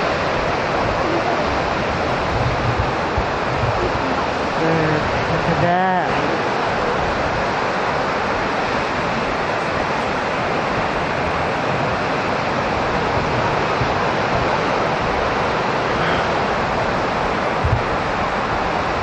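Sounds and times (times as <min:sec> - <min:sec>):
sea surf washing in: 0:00.0 - 0:19.0.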